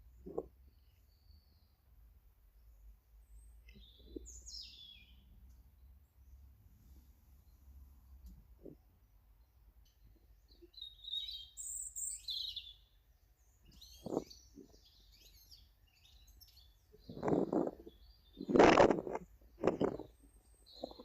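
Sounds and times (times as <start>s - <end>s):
small birds chirping: 0.0s - 6.5s, 7.3s - 21.0s.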